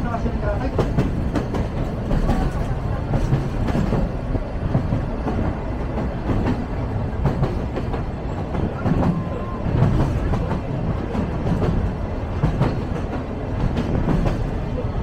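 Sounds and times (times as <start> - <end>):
train carriages rumbling: 0.0 - 15.0
wheels clacking on rails: 0.0 - 15.0.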